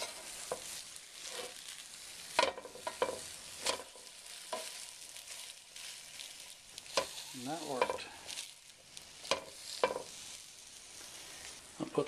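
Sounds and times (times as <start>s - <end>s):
sandwiches sizzling in a pan: 0.0s - 12.0s.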